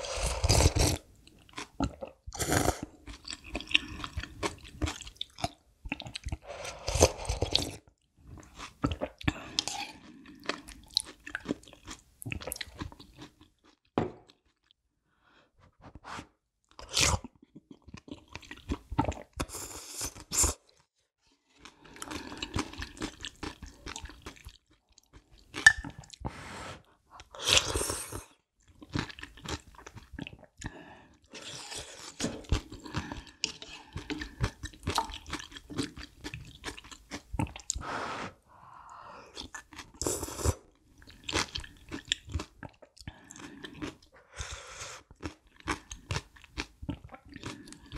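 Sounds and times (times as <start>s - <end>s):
person chewing and slurping noodles: 0.0s - 13.8s, 17.0s - 20.6s, 21.5s - 38.3s, 39.4s - 47.9s.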